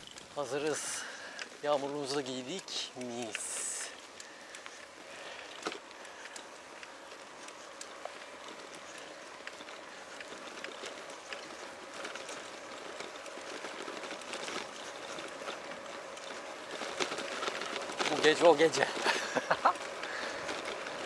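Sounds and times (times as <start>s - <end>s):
light rain falling: 0.0s - 21.0s
raindrops ticking close by: 0.0s - 21.0s.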